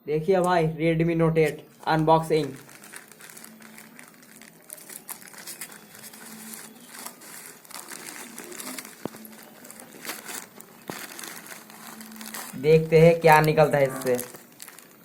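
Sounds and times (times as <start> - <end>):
packaging crinkling and rustling: 1.4 - 15.0.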